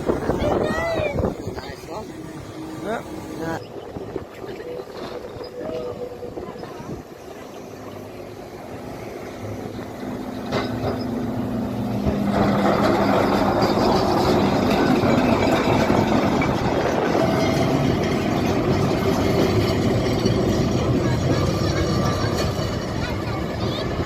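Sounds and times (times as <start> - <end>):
tram humming: 0.0 - 24.0
tram rushing past: 0.0 - 24.0.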